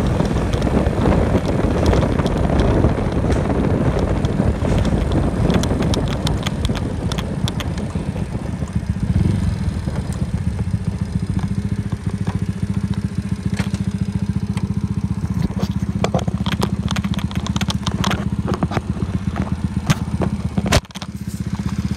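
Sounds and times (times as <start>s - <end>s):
clicks and rattles: 0.0s - 21.9s
small engine running: 0.0s - 21.9s.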